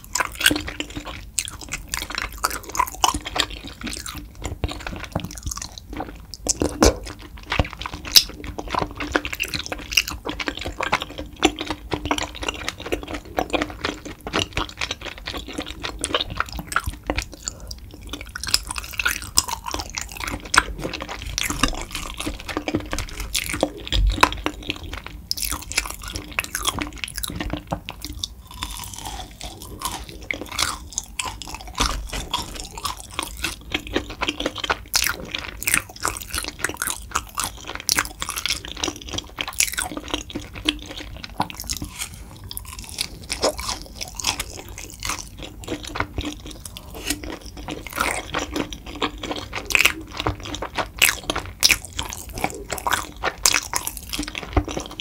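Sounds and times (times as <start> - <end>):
crunchy bites: 0.0 - 55.0
wet sticky chewing: 0.0 - 55.0.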